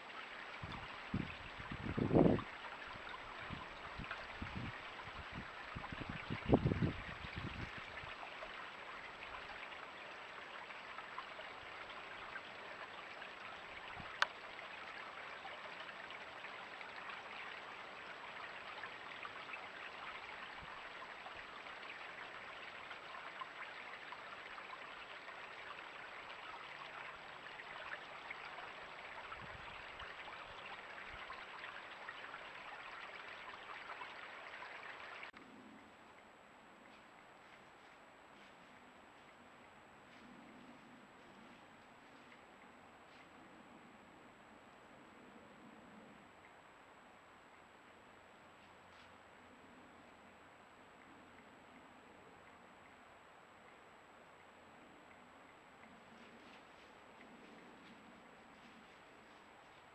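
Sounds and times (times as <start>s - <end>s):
rushing water: 0.0s - 40.3s, 41.1s - 59.9s.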